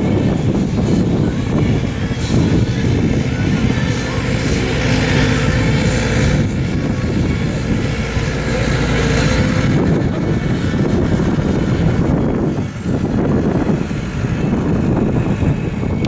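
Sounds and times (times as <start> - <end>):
tractor engine rumbling: 0.0 - 16.0.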